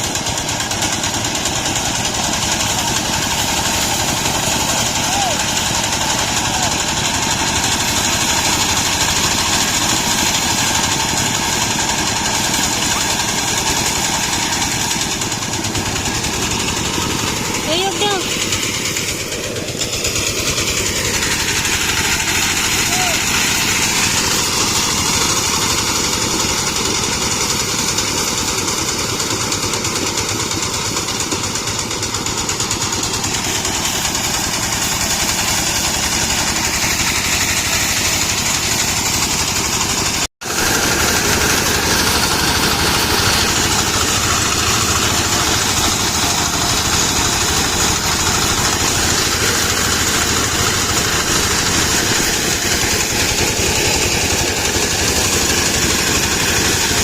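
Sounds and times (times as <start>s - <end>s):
threshing machine running: 0.0s - 57.0s.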